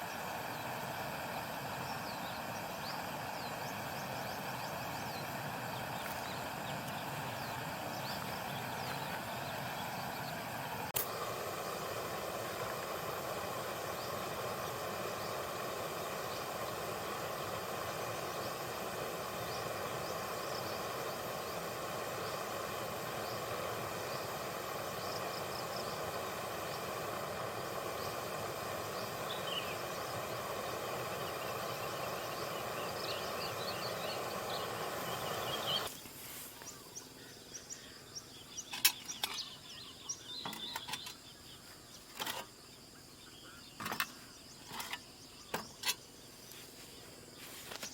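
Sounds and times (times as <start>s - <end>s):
outdoor background noise: 0.0s - 47.9s
wild birds chirping: 0.0s - 47.9s.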